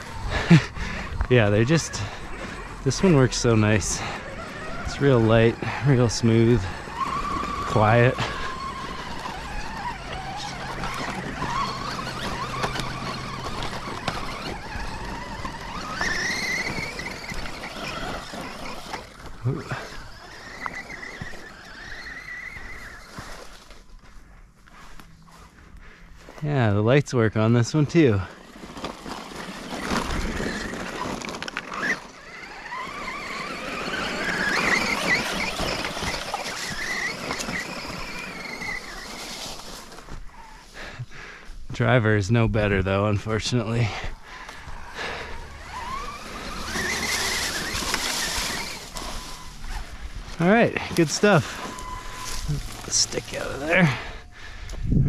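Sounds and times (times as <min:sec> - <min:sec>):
electric motor whining: 0:00.0 - 0:26.5, 0:27.4 - 0:41.0, 0:42.6 - 0:55.0
tyres scrabbling over dirt: 0:00.0 - 0:55.0.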